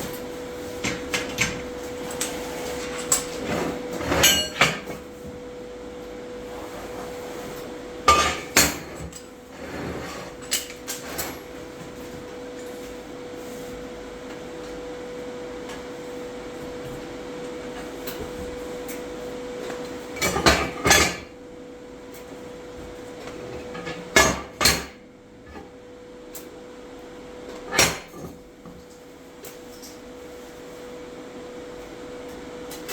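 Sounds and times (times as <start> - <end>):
workshop hum: 0.0 - 32.9.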